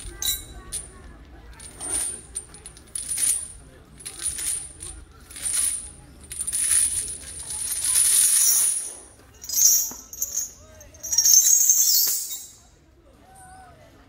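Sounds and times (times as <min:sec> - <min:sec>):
iron chains clinking: 0:00.0 - 0:12.8.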